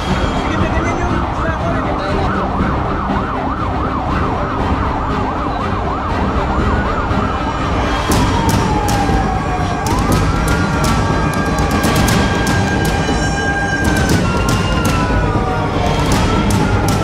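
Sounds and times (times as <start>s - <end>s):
siren yelping: 0.0s - 17.0s.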